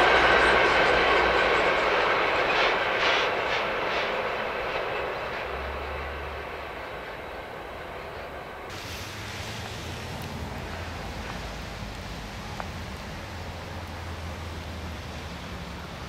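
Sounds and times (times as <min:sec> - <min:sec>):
train wheel clacks: 0:00.0 - 0:07.4, 0:08.0 - 0:16.0
freight train rolling over rails: 0:00.0 - 0:16.0.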